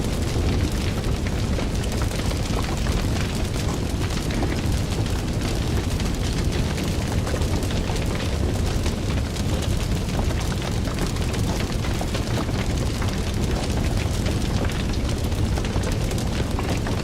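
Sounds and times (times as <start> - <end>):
fire roaring and crackling: 0.0 - 17.0.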